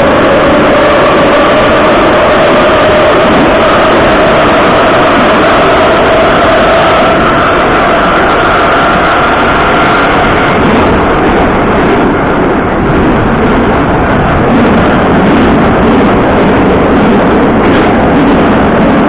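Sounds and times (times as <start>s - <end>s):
faint high whine: 0.0s - 19.0s
subway car wheels rumbling: 0.0s - 19.0s.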